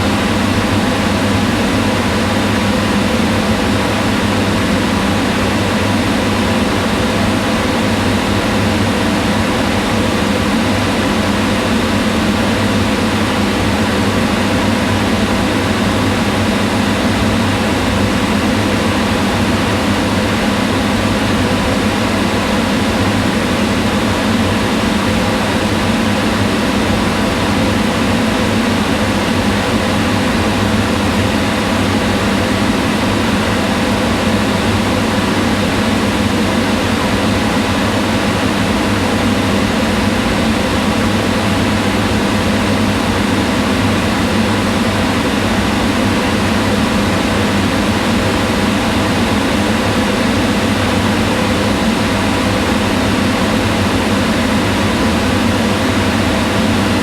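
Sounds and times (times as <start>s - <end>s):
range hood fan whirring: 0.0s - 57.0s.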